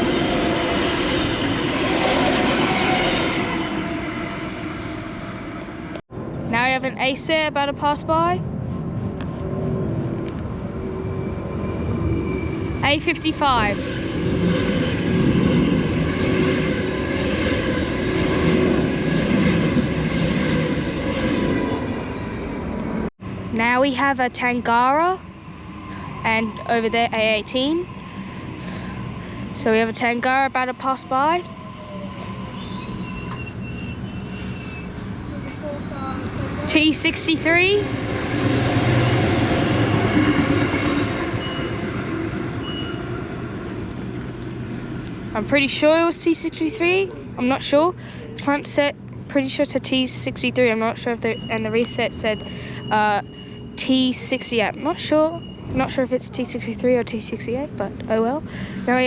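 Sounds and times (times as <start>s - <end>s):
wheels rumbling on rail: 0.0s - 47.8s
electric train passing: 0.0s - 59.0s.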